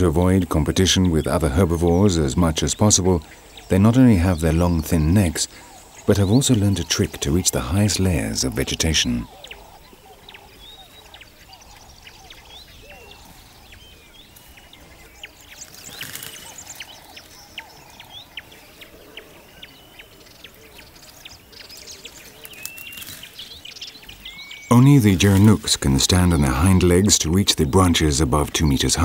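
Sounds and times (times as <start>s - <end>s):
birds chirping and whistling: 0.0s - 29.0s
lower bird calls: 0.0s - 29.0s.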